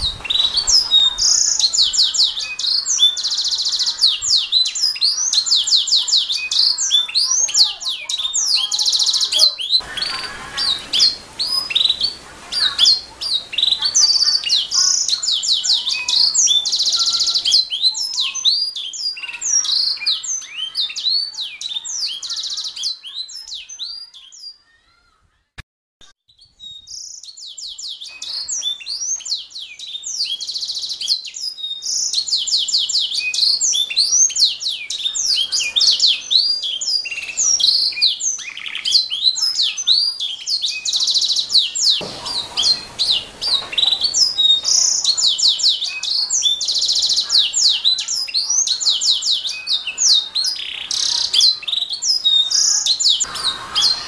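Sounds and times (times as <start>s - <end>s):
canary singing: 0.0s - 24.6s, 26.3s - 54.0s.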